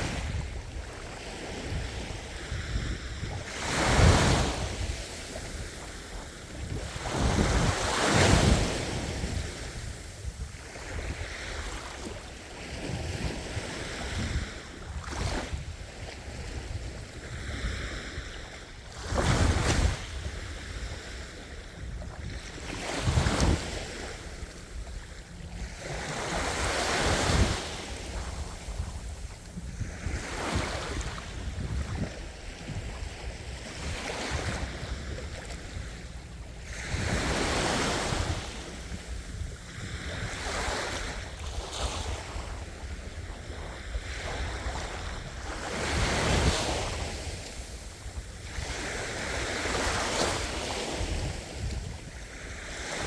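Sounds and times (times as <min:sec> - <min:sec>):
ocean waves breaking on shore: 0:00.0 - 0:53.0
wind rumbling on microphone: 0:00.0 - 0:53.0.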